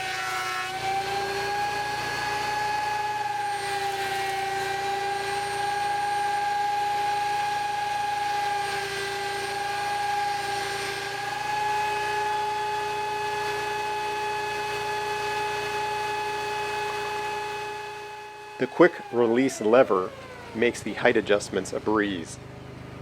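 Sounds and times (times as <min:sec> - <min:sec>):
thickness planer whining: 0:00.0 - 0:23.0.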